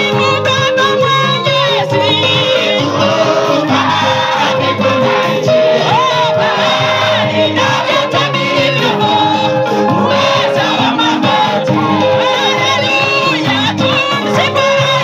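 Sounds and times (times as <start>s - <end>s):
amplified instrumental backing: 0.0s - 15.0s
choir and congregation singing: 1.7s - 15.0s.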